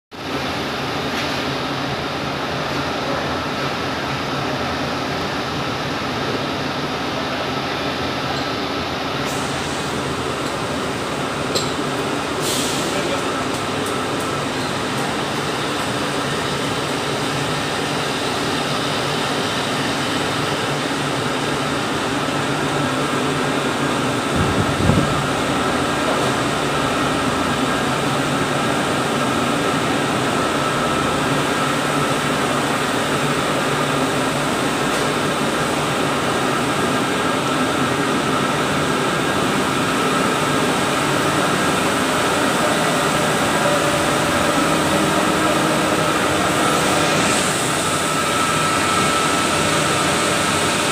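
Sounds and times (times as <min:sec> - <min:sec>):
machinery drone and hum: 0:00.2 - 0:50.9.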